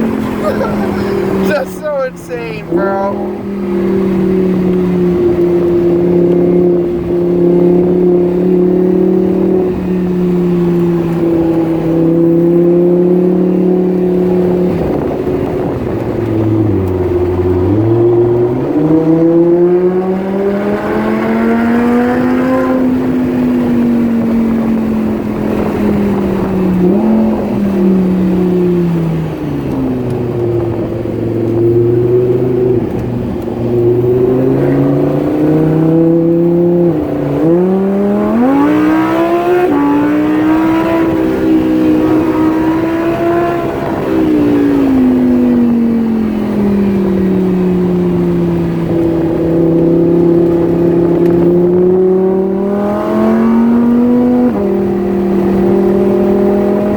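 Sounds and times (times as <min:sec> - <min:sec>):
sports car engine revving: 0:00.0 - 0:56.9.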